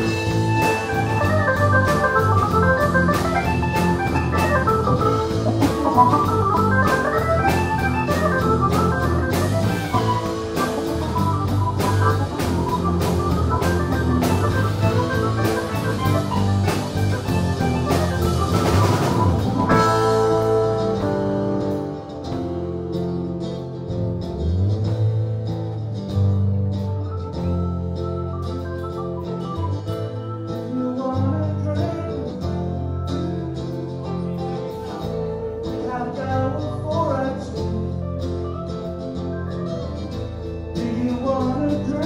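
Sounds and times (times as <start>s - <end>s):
bass guitar: 0.0s - 42.0s
drum kit: 0.0s - 42.0s
electric guitar lines: 0.0s - 42.0s.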